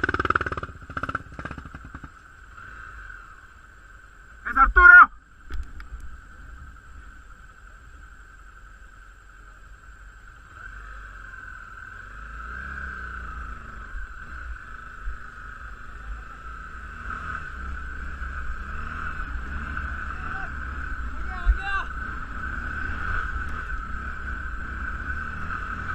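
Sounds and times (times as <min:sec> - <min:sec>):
steady high-pitched hiss: 0:00.4 - 0:25.9.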